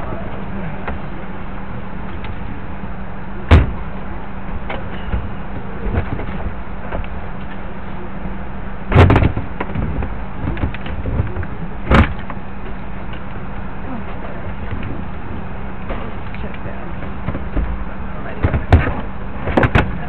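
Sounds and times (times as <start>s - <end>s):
cabin air system hum: 0.0s - 20.0s.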